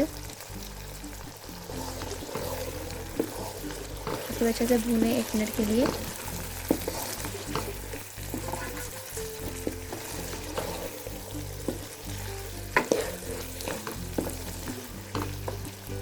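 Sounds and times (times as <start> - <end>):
soft music: 0.0 - 16.0
vegetables sizzling in oil: 0.0 - 16.0
spoon clinking and scraping pot: 1.6 - 15.7.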